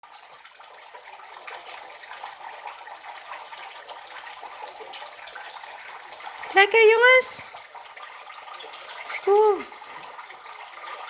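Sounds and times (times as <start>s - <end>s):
fountain water splashing and trickling: 0.0s - 11.0s.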